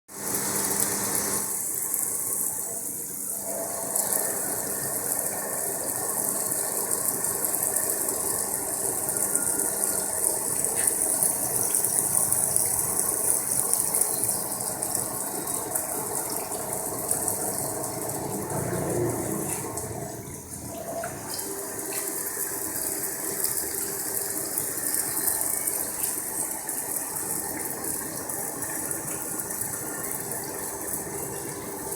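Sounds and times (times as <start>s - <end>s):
machine running with clatter and hiss: 0.1s - 31.9s.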